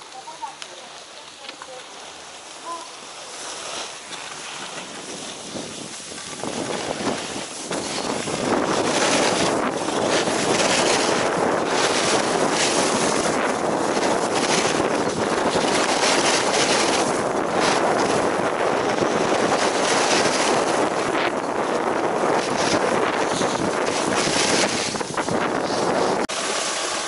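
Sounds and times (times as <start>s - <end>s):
skis hissing on snow: 0.0s - 18.7s, 22.2s - 27.0s
wind rushing over microphone: 3.6s - 27.0s.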